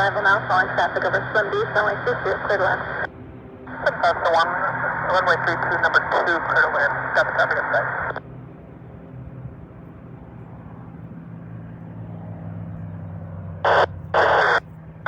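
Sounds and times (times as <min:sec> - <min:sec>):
distant propeller aircraft droning: 0:00.0 - 0:15.0.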